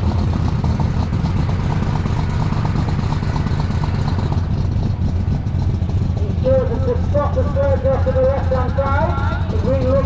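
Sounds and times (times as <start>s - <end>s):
tractor engine running hard: 0.0s - 10.0s.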